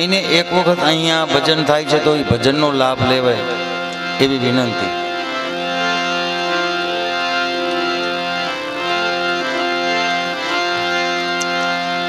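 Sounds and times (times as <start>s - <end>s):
harmonium sustained chords: 0.0s - 12.0s.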